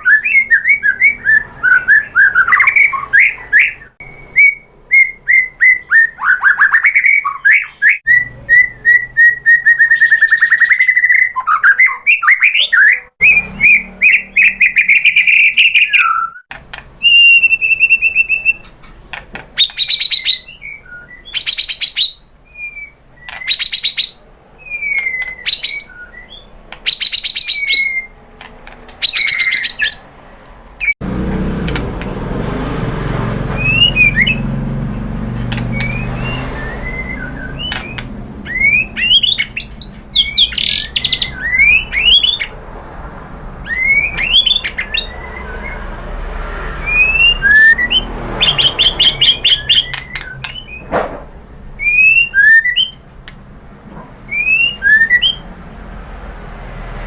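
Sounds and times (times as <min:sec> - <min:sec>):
songbird singing trills and whistles: 0:00.0 - 0:31.0, 0:33.5 - 0:42.6, 0:43.6 - 0:46.0, 0:46.8 - 0:50.9, 0:51.8 - 0:53.0, 0:54.3 - 0:55.5.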